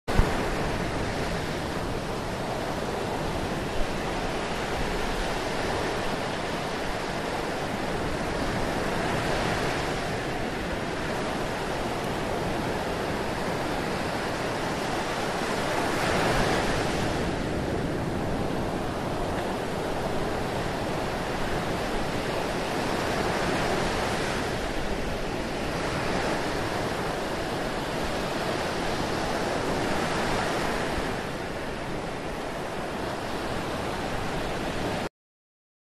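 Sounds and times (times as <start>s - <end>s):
ocean waves breaking: 0.1s - 35.1s.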